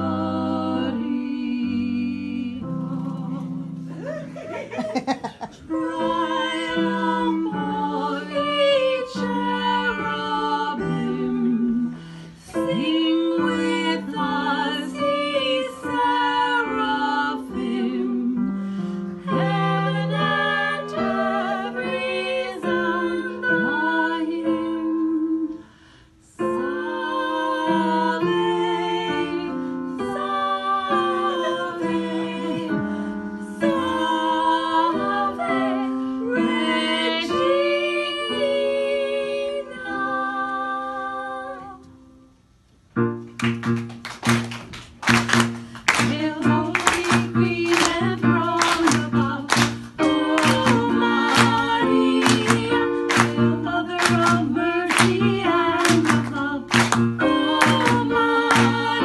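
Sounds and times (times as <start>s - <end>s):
women singing a hymn in harmony: 0.0s - 3.9s, 5.6s - 42.0s, 46.0s - 59.0s.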